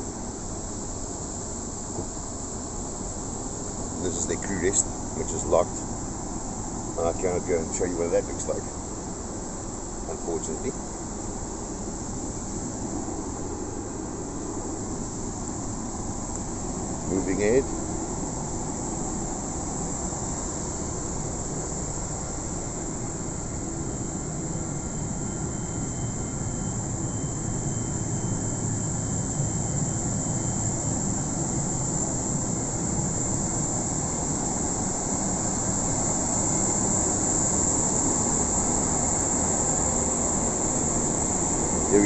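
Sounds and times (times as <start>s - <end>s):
air-conditioning rushing hum: 0.0s - 42.0s.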